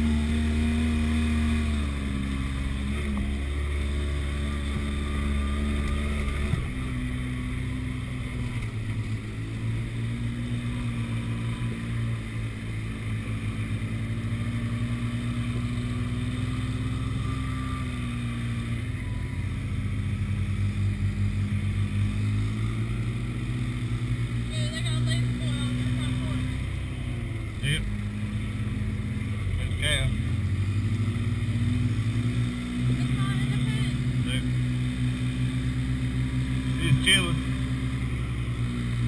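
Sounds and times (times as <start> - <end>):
utility vehicle engine running: 0.0 - 39.0.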